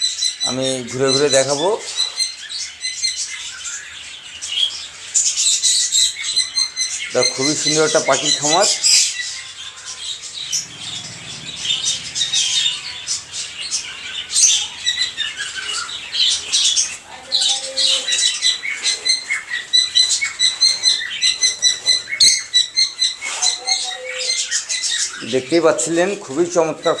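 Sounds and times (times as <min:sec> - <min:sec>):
caged birds chirping and squawking: 0:00.0 - 0:27.0.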